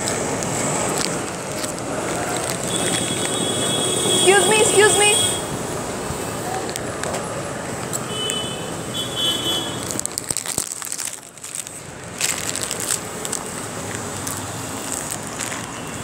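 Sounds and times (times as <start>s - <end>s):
crackling and rustling close: 0.0s - 5.1s, 5.7s - 8.4s, 9.5s - 16.0s
street traffic: 0.0s - 16.0s.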